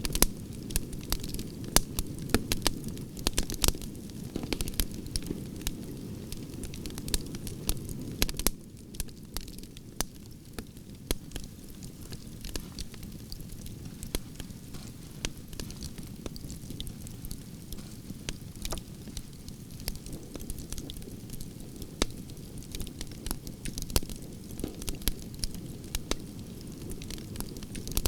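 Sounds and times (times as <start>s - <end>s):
fire crackling pops and snaps: 0.0s - 28.0s
low rumble of flames: 0.0s - 28.0s.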